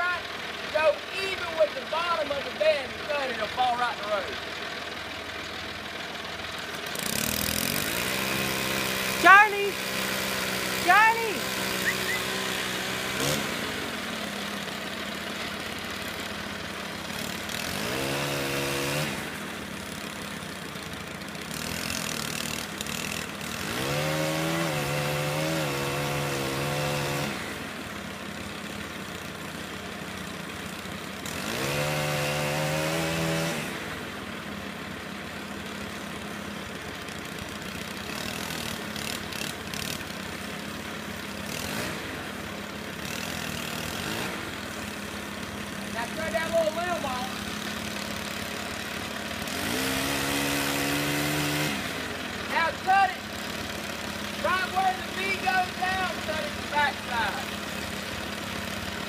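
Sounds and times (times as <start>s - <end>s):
chainsaw engine idling: 0.0s - 59.0s
chainsaw revving: 0.0s - 59.0s.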